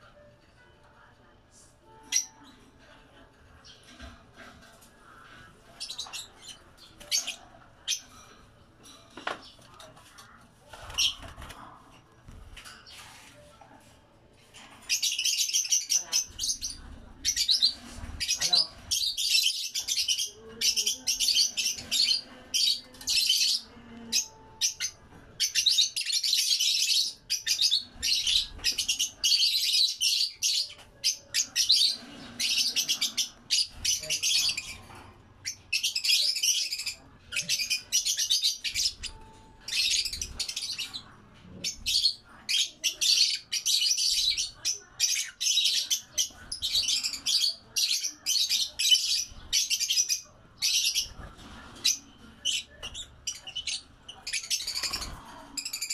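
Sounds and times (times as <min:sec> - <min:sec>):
lovebirds chattering: 0:01.8 - 0:13.9, 0:14.5 - 0:55.9.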